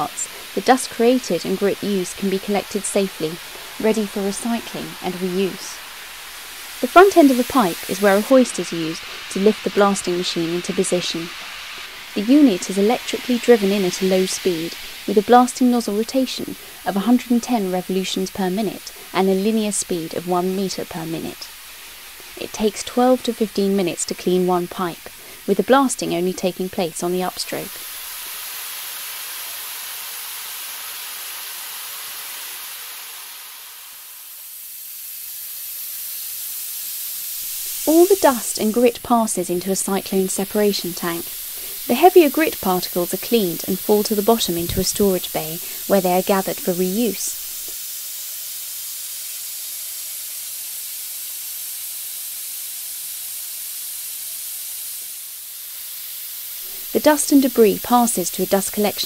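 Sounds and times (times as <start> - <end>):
hiss of rushing air and grit: 0.0 - 59.0.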